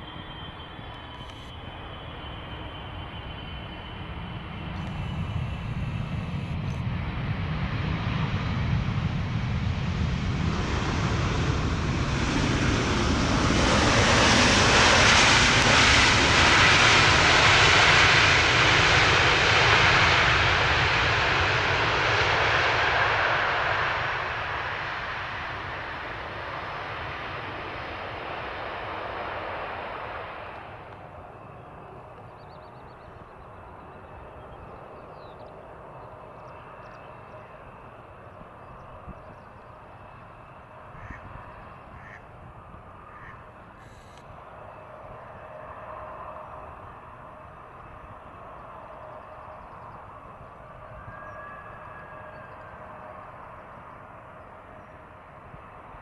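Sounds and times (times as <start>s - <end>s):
jet engines roaring and hissing: 0.0s - 56.0s.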